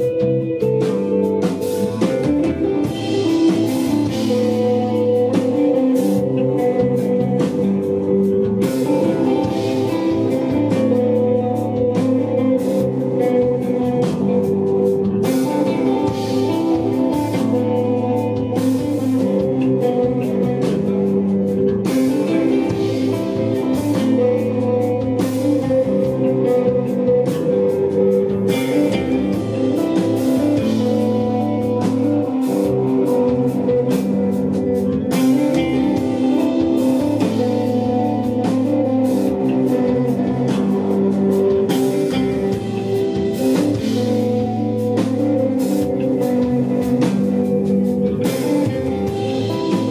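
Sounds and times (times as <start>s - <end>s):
electric guitar: 0.0s - 49.9s
rock band playing live: 0.0s - 49.9s.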